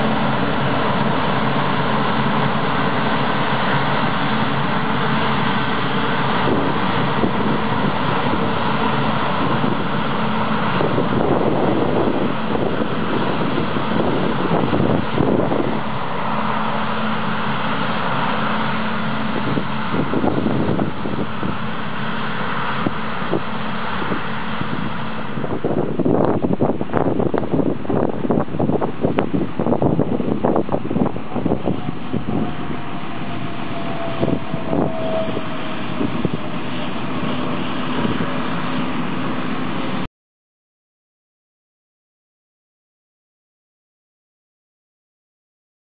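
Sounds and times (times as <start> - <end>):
wind buffeting microphone: 0.0 - 40.0
combine harvester droning: 0.0 - 40.1.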